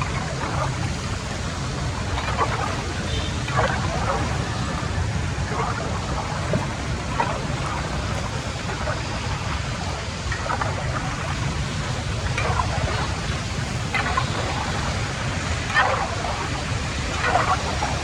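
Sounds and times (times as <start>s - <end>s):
floodwater rushing into drain: 0.0s - 18.0s.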